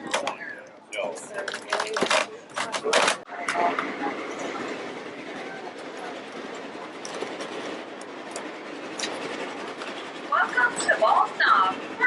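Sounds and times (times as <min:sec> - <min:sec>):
train cars rumbling on rails: 0:00.0 - 0:12.0
wheels clicking on track: 0:01.2 - 0:12.0.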